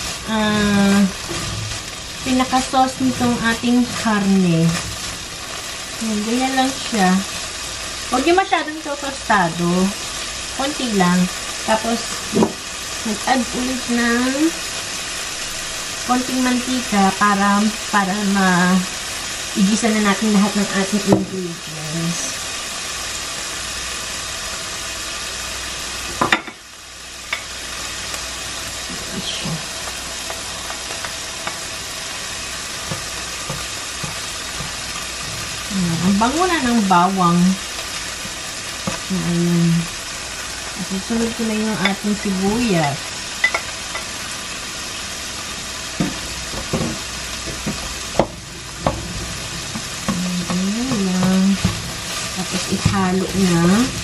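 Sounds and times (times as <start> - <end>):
meat sizzling in a frying pan: 0.0 - 54.0.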